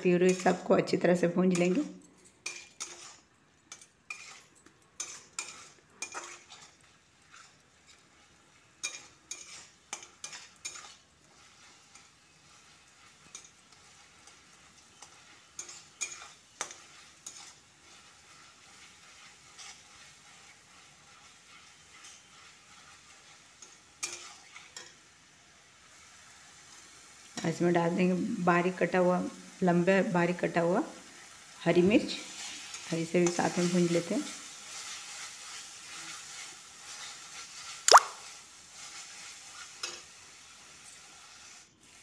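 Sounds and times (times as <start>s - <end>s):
faint sizzle: 0.0s - 42.0s
metal spatula scraping a pan: 1.5s - 25.1s, 32.0s - 42.0s.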